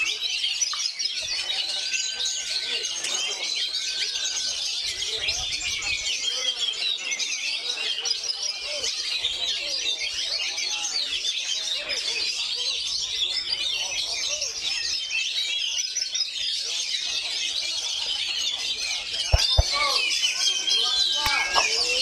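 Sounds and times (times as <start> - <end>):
songbirds chirping and whistling: 0.0 - 22.0.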